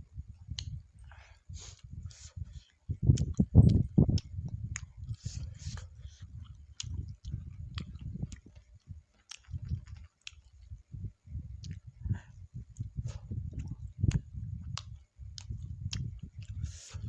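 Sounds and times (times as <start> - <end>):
chewing with wet mouth clicks: 0.6 - 0.8, 1.7 - 10.8, 11.5 - 17.0.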